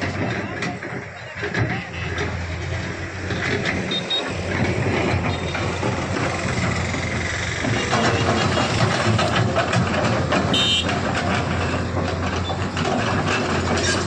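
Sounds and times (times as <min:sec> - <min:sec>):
excavator diesel engine running: 0:00.0 - 0:14.0
excavator digging soil: 0:00.0 - 0:14.0.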